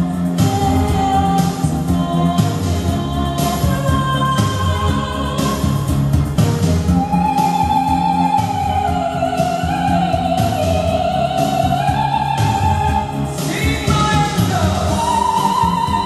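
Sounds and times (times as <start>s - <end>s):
orchestral backing track: 0.0s - 16.0s.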